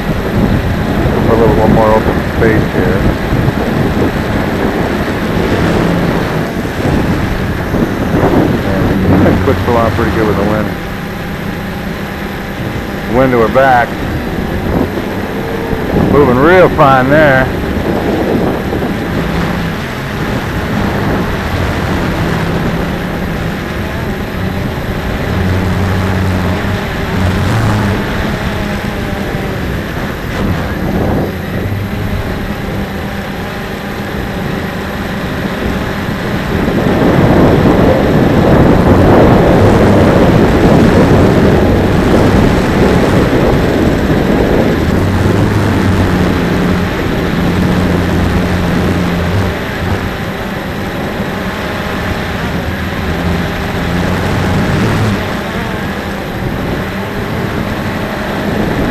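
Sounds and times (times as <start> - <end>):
low wavering hum: 0.0 - 58.9
wind buffeting microphone: 0.0 - 58.9.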